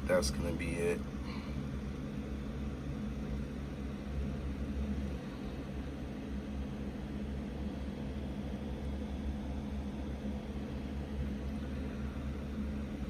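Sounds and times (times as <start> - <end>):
steady machine hum and hiss: 0.0 - 13.0.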